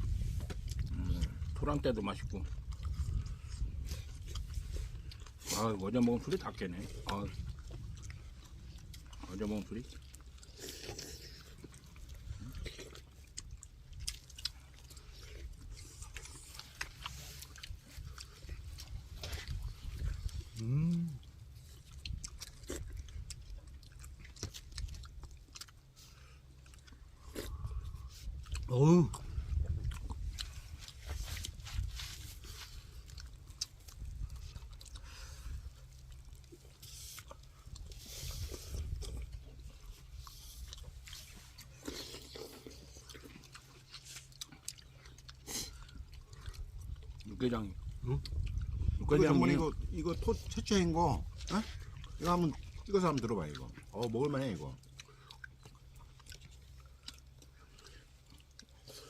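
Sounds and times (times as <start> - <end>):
steady low rumble: 0.0 - 54.1
people chewing food: 0.0 - 59.0.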